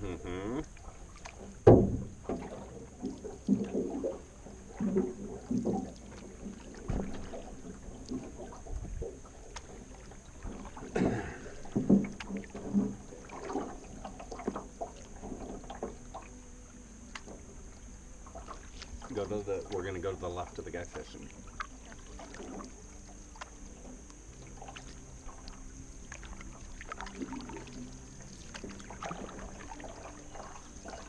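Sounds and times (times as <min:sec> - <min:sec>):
paddles splashing in water: 0:00.0 - 0:31.0.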